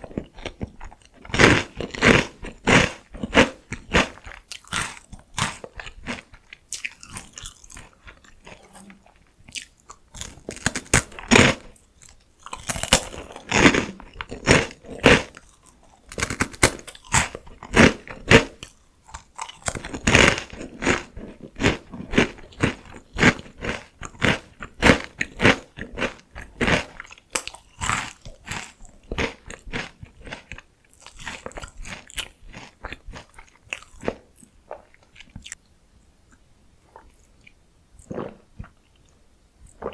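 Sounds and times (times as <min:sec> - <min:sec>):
crunching potato sticks: 0:00.0 - 0:35.6.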